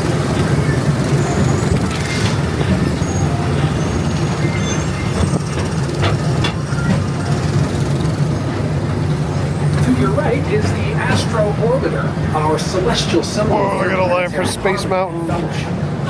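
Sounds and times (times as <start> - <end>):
ride train rumbling on track: 0.0 - 16.0.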